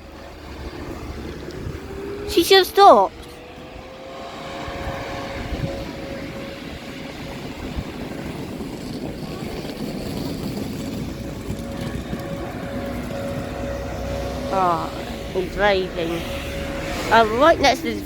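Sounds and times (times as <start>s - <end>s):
bus engine running: 0.0s - 18.0s.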